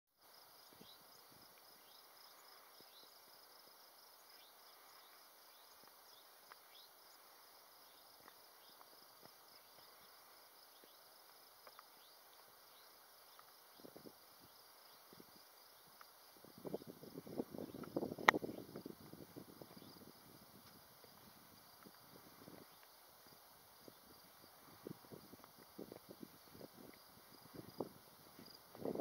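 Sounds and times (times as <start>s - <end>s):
faint insect chirping: 0.2s - 29.0s.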